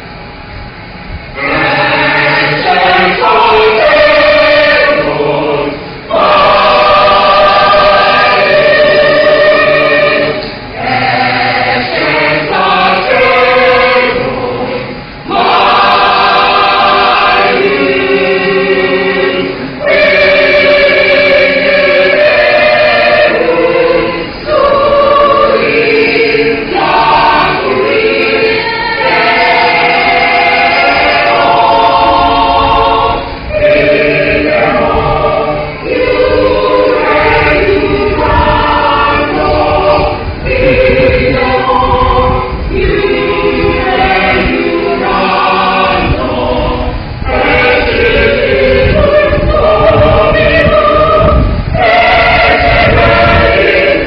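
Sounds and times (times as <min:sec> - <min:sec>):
choir singing: 0:01.3 - 0:54.0.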